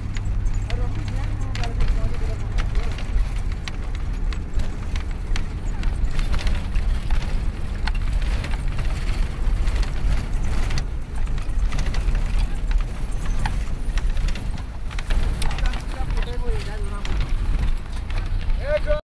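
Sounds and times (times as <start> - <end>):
vehicle body rattling: 0.0 - 19.0
vehicle rumble on rough road: 0.0 - 19.0.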